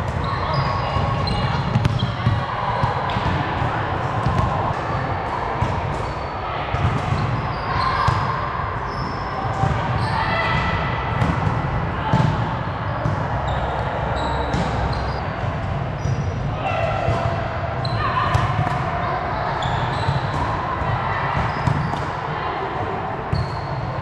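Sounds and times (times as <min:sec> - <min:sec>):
murmur of players' voices: 0:00.0 - 0:24.0.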